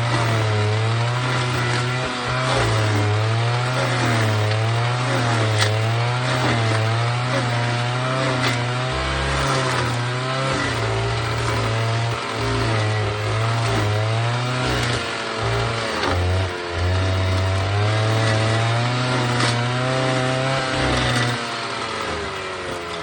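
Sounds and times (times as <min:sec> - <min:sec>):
grinding noise: 0:00.0 - 0:23.0
stump grinder engine running: 0:00.0 - 0:23.0.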